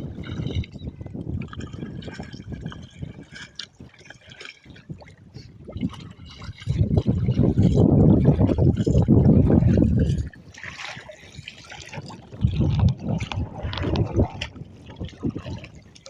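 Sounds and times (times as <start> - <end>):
water splashing and trickling: 0.0 - 16.0
wind buffeting microphone: 0.0 - 16.0.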